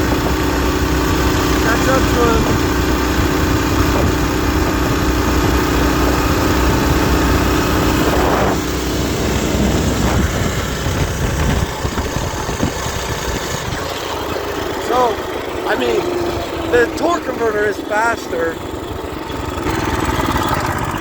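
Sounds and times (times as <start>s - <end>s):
small engines at full throttle: 0.0s - 21.0s.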